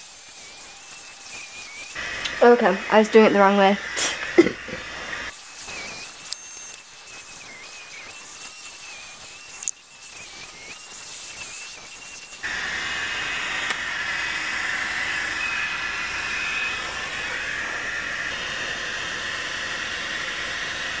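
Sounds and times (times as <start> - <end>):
hair styler cooling fan hiss: 1.3 - 21.0.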